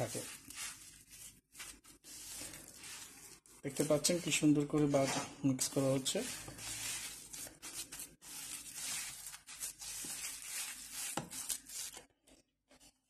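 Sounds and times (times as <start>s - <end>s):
gritty rustle of hand mixing crumbs: 0.0s - 12.1s.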